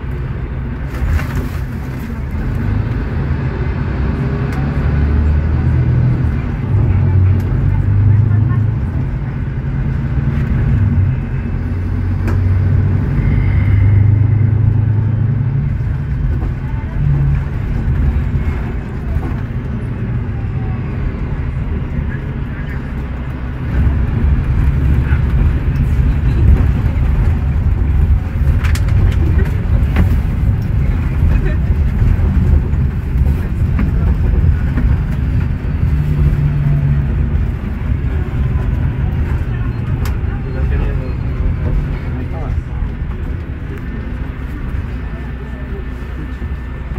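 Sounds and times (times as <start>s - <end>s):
bus engine drone: 0.0s - 46.9s
road noise: 0.0s - 46.9s.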